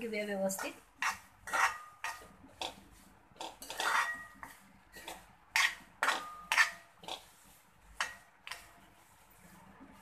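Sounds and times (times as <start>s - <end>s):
spoon scraping metal pan: 0.4s - 9.4s.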